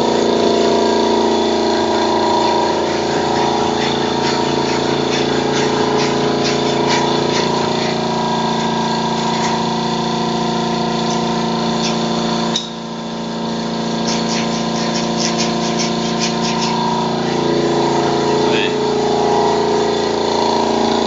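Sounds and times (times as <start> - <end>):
air compressor motor hum: 0.0 - 21.0.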